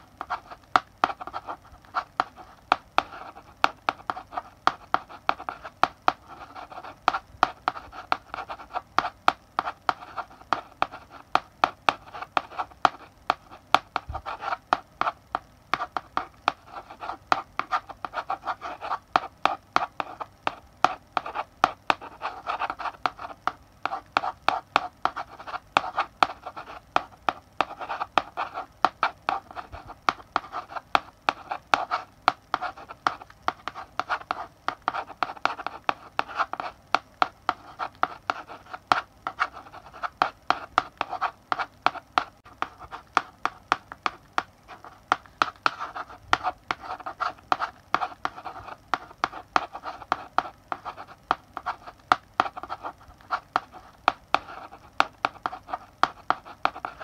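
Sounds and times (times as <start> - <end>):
chalk scratching on blackboard: 0.2 - 57.0.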